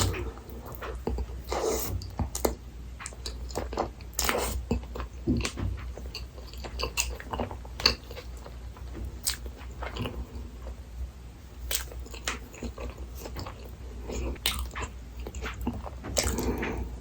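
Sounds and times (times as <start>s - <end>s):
person chewing food: 0.0s - 10.8s, 11.6s - 17.0s.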